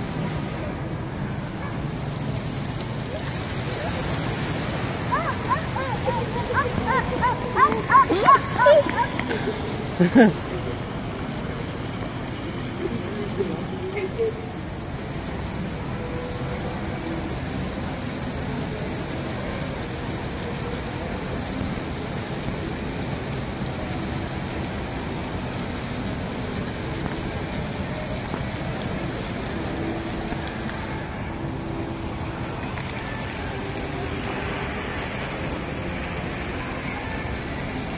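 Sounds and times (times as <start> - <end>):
fountain water splashing: 0.0 - 37.9.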